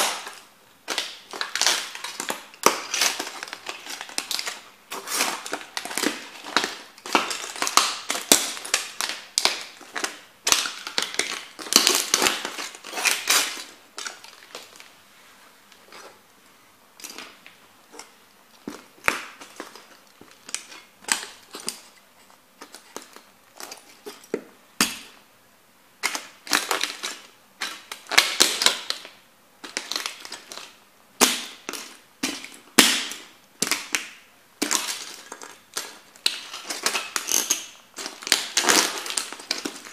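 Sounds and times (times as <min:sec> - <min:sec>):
plastic cracking under boots: 0:00.0 - 0:14.9, 0:17.0 - 0:22.0, 0:26.0 - 0:39.9.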